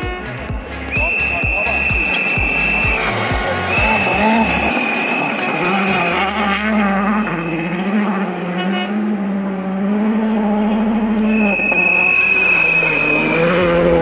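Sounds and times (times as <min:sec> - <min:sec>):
rally car engine running hard: 0:00.0 - 0:14.0.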